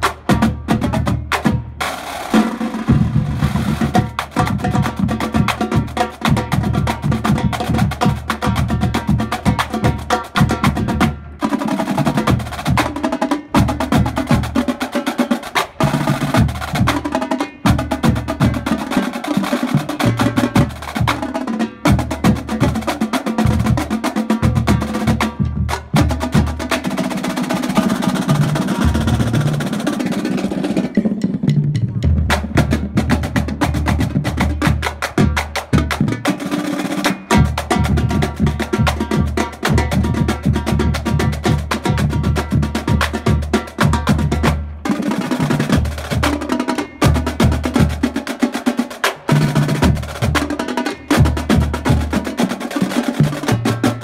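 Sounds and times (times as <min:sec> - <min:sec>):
marching drumline playing: 0:00.0 - 0:54.0.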